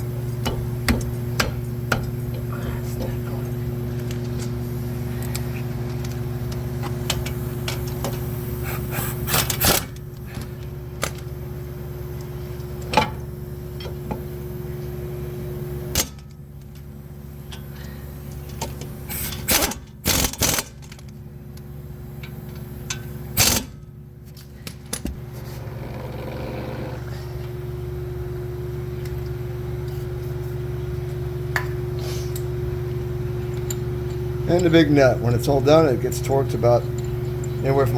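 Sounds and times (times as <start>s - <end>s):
steady mechanical hum: 0.0s - 37.9s.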